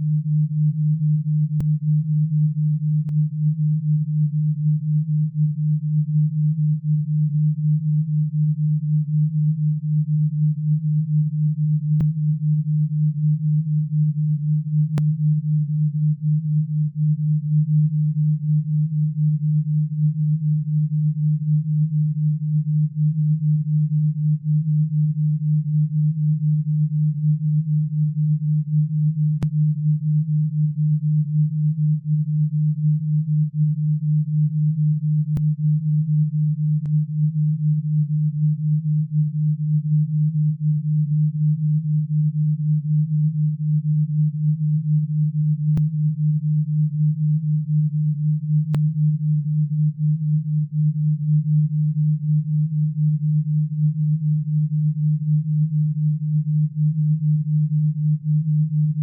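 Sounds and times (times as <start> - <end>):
pulsing low sine tone: 0.0 - 59.0.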